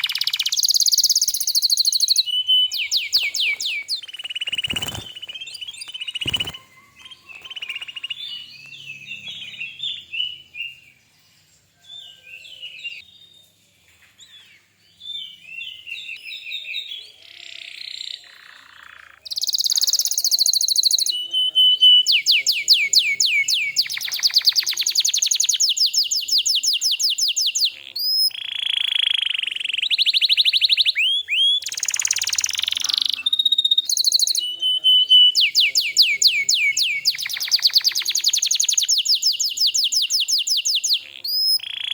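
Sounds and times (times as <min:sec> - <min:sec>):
canary singing: 0:00.0 - 0:13.0, 0:15.4 - 0:41.9.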